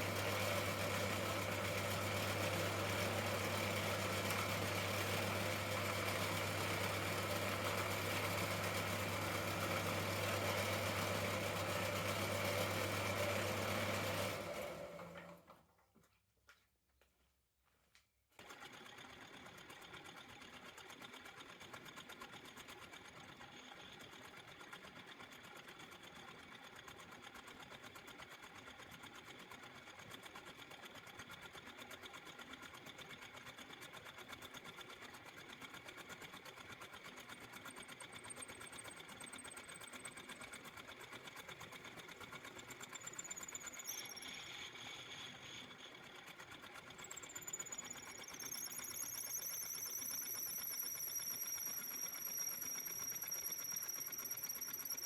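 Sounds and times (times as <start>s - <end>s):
small workshop machine running: 0.0s - 15.6s, 18.4s - 55.0s.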